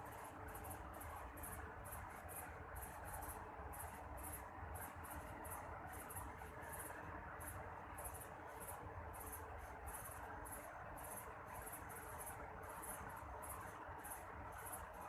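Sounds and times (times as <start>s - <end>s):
night insects chirping: 0.0s - 15.0s.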